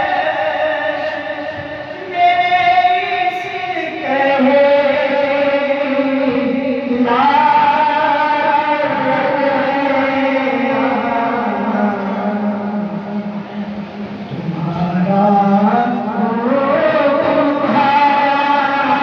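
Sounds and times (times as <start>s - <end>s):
man singing into a microphone: 0.0s - 13.6s, 14.3s - 19.0s.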